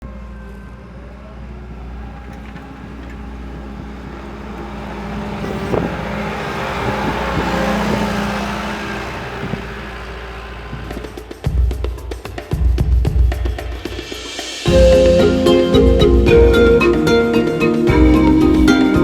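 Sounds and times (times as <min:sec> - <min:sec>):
road vehicle passing: 0:00.0 - 0:12.5, 0:14.5 - 0:19.0.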